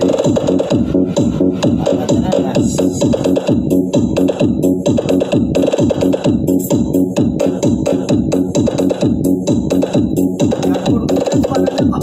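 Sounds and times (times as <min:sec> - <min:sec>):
electronic dj mix music: 0:00.0 - 0:12.0.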